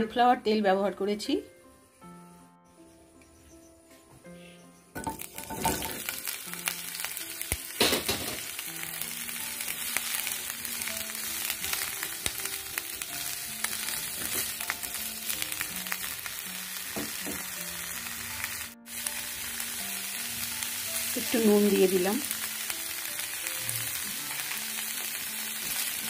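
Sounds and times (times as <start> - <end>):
vegetables sizzling in hot oil: 5.0 - 26.0.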